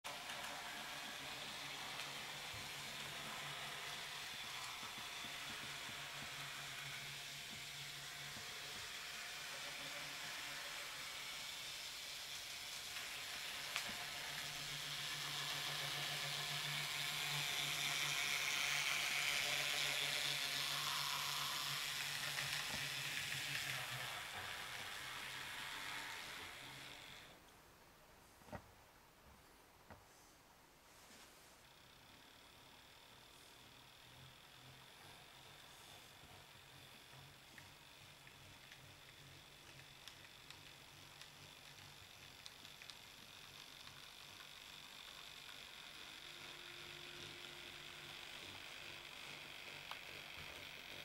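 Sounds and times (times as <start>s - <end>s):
model train motor whirring: 0.1s - 27.4s, 31.6s - 51.0s.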